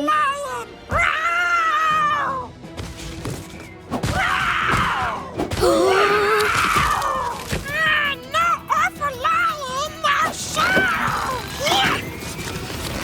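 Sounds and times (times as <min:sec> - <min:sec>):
cartoon background music: 0:00.0 - 0:13.0.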